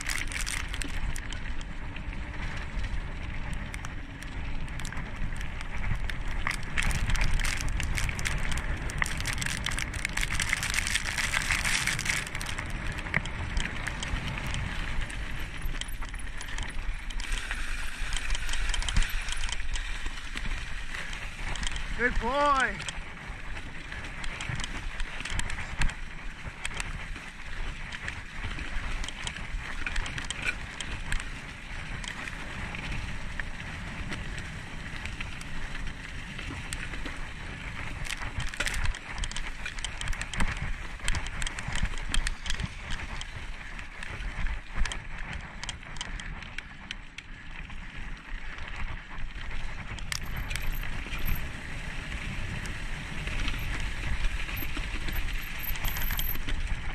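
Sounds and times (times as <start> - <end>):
bike tyres crunching through leaves: 0.0 - 45.9
bike clicks and rattles: 0.0 - 56.9.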